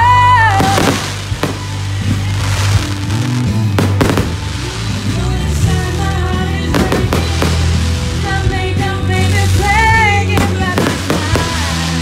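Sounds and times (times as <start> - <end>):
firework bangs: 0.0 - 12.0
music with sustained bass notes: 0.0 - 12.0.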